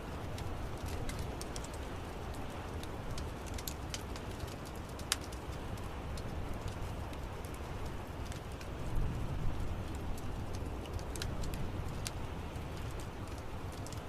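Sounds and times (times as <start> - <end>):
fire popping and snapping: 0.0 - 14.0
wood fire crackling: 0.0 - 14.0.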